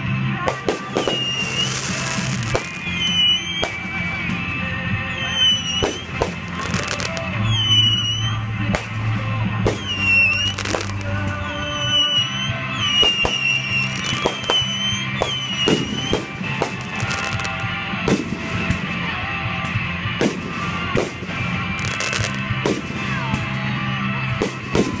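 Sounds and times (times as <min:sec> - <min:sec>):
music playing: 0:00.0 - 0:25.0
fireworks bangs and pops: 0:00.4 - 0:25.0.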